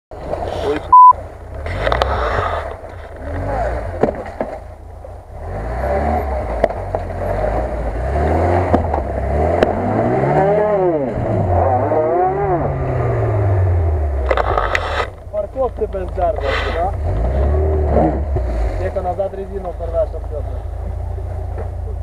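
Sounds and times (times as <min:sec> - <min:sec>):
car engine pulling under load: 0:00.2 - 0:22.0.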